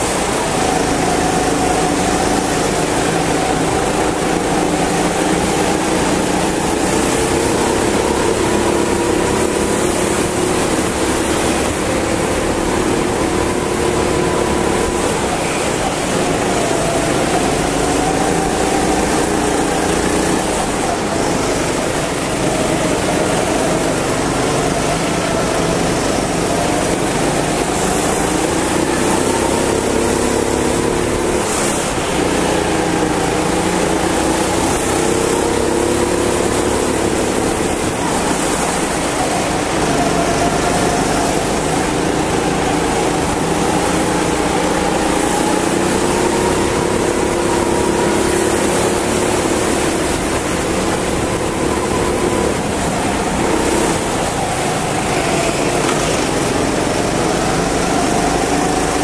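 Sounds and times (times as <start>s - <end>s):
go-kart engine revving: 0.0s - 59.0s
steady rushing noise: 0.0s - 59.0s.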